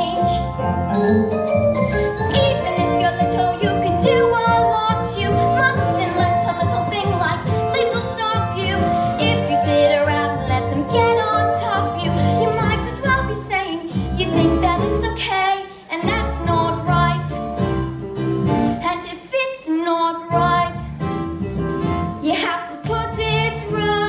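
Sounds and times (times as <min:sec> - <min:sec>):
upbeat musical-theatre backing music: 0:00.0 - 0:24.0.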